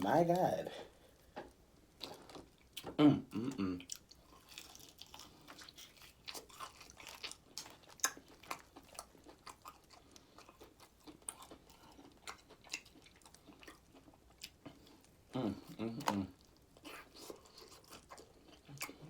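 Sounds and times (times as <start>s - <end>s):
person chewing crunchy food: 1.1s - 19.0s.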